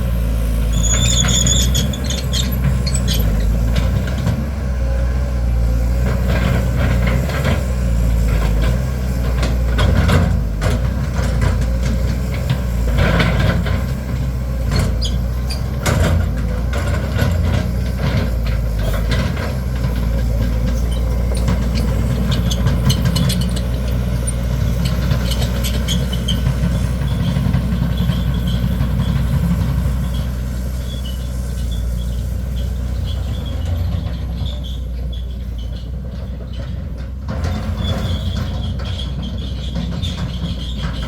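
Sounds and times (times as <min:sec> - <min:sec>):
diesel excavator engine running: 0:00.0 - 0:41.0.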